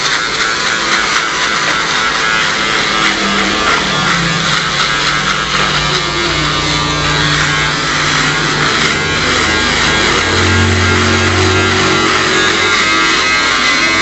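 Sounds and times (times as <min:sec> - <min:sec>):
electric shaver buzzing: 0:00.0 - 0:14.0.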